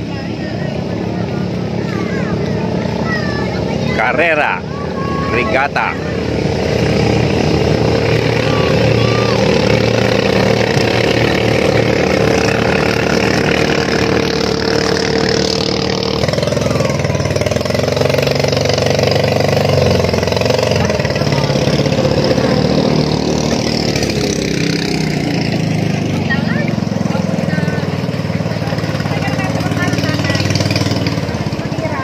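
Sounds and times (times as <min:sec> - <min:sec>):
boat engines droning: 0:00.0 - 0:32.0
water noise: 0:00.0 - 0:32.0.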